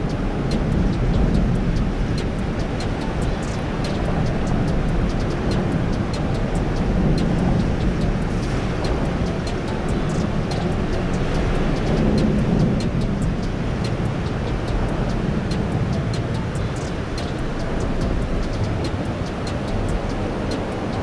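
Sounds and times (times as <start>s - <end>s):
faint high ticking: 0.0s - 21.0s
low traffic rumble: 0.0s - 21.0s.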